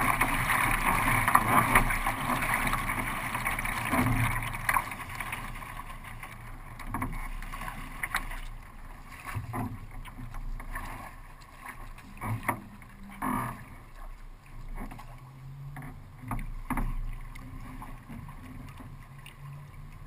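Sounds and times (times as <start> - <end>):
water rushing around kayak: 0.0 - 20.0.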